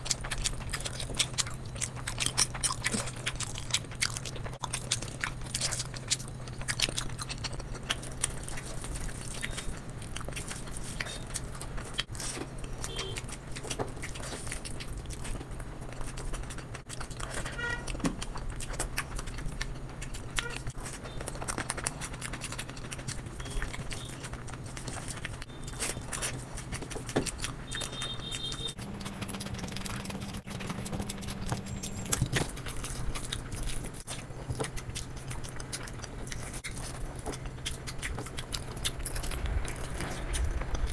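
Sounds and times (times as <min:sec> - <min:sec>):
steady low hum: 0:00.0 - 0:40.9
wet chewing: 0:00.0 - 0:40.9.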